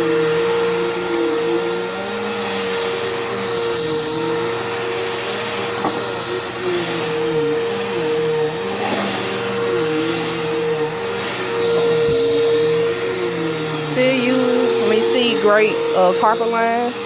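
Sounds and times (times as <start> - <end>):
vacuum cleaner on carpet: 0.0 - 17.0.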